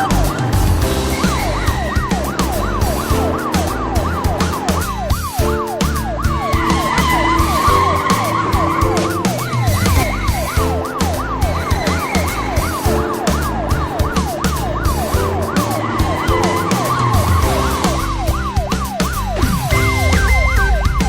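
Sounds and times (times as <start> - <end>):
backing music with steady beat: 0.0 - 21.0
siren wailing: 0.0 - 21.0.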